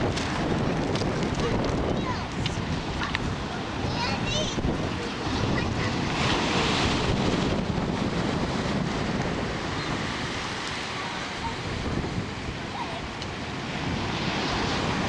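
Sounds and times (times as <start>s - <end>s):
waves washing on rocky shore: 0.0s - 15.0s
wind buffeting microphone: 0.0s - 15.0s.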